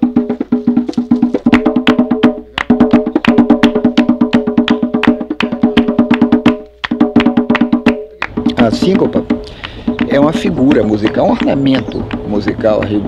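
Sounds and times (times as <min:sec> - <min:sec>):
hand claps and strikes: 0:00.0 - 0:13.0.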